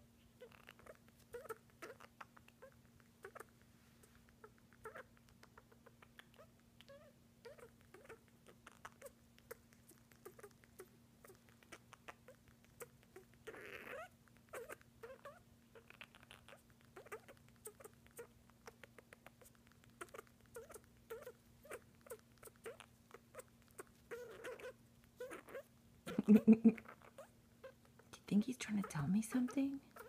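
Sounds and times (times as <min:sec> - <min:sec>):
parrot clicks and squeaky clucks: 0:00.4 - 0:03.6, 0:04.2 - 0:30.0.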